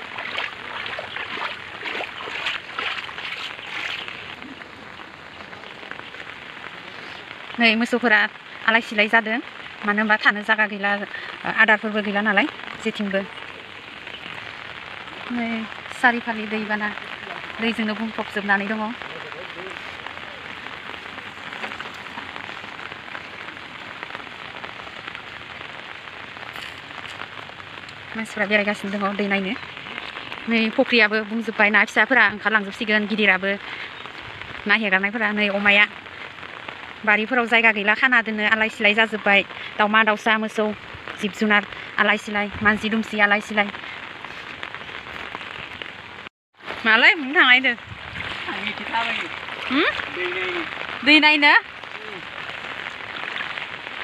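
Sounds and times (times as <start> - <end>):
water splashing: 0.0 - 9.8, 11.1 - 36.9, 42.6 - 54.0
steady rain falling: 0.0 - 54.0.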